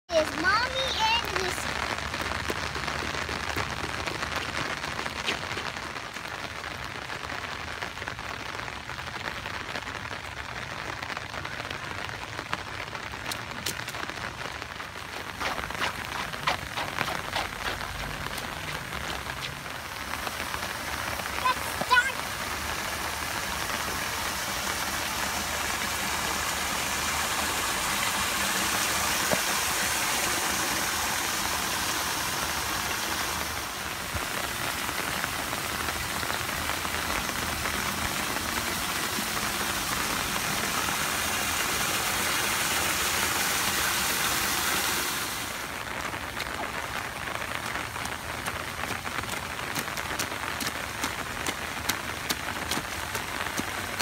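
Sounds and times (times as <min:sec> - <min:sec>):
rain on wet pavement: 0:00.1 - 0:54.0.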